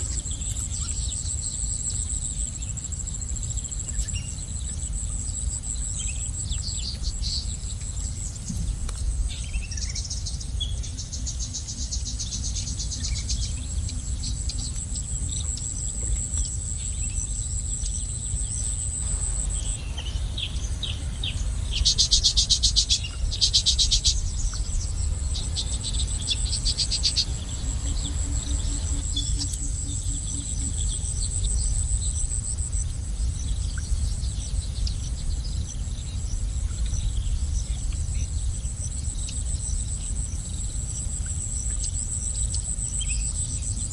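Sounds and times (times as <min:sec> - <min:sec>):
insect buzz: 0:00.0 - 0:43.9
low background rumble: 0:00.0 - 0:43.9
bird chirps and trills: 0:05.8 - 0:43.8.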